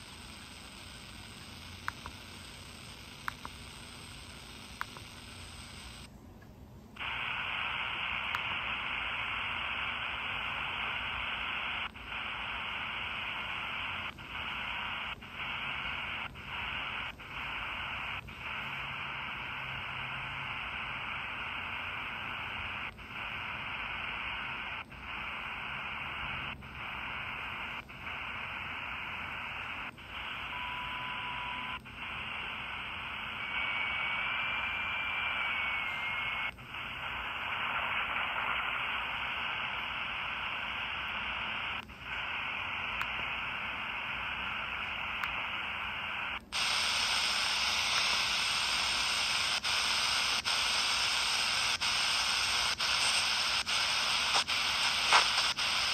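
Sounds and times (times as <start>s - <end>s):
radio static hiss: 0.0s - 6.2s, 7.0s - 55.9s
faint radio whistles: 7.0s - 55.9s.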